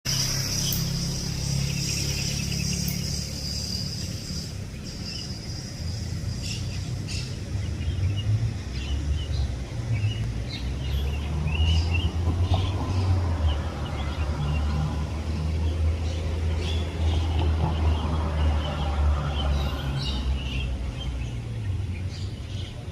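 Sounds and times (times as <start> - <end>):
low traffic rumble: 0.1 - 22.9
small birds chirping: 0.1 - 22.9.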